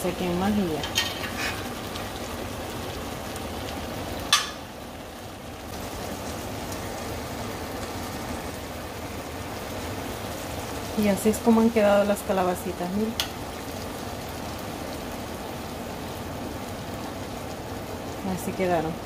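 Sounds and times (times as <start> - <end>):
syrup bubbling and sizzling: 0.0 - 19.0.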